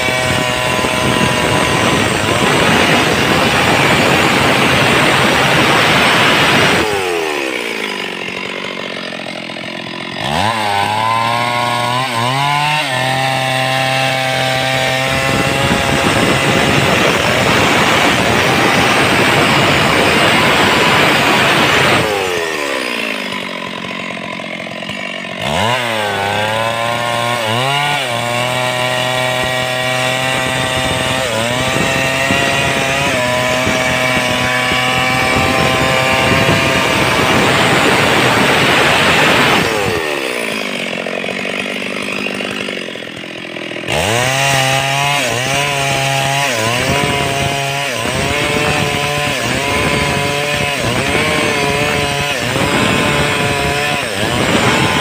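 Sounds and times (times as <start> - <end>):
chainsaw cutting through a log: 0.0 - 55.0.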